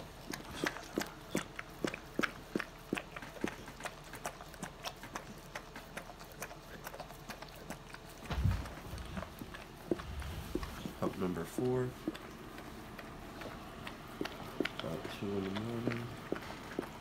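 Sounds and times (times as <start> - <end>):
dog licking puppy: 0.0 - 17.0.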